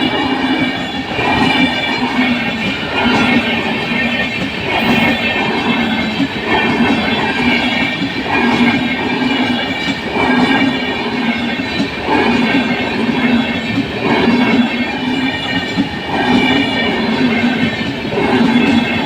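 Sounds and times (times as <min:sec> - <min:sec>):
train running on rails: 0:00.0 - 0:19.0.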